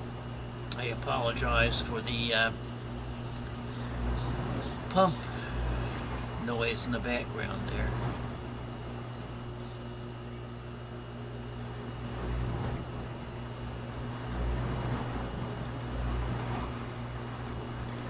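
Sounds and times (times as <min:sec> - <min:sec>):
electric pump humming: 0:00.0 - 0:18.0.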